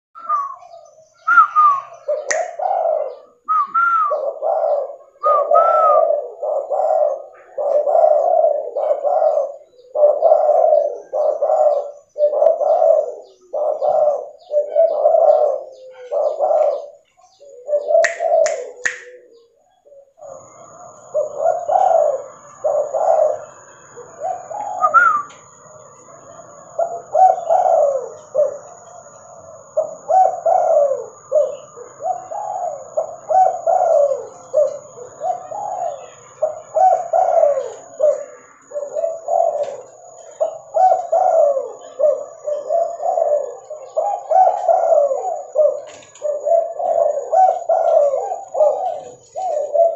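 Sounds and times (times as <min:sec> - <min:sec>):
dove cooing: 0:00.2 - 0:49.9.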